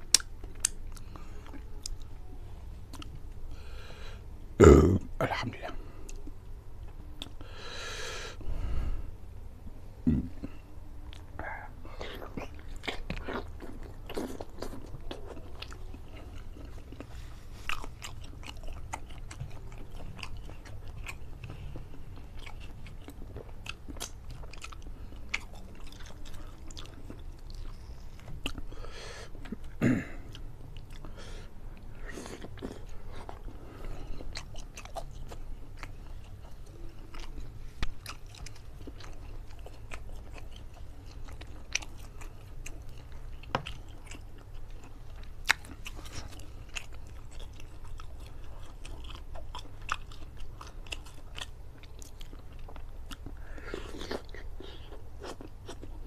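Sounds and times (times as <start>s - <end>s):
man chewing: 0.0s - 2.3s, 2.9s - 4.8s, 5.5s - 8.7s, 10.1s - 56.0s.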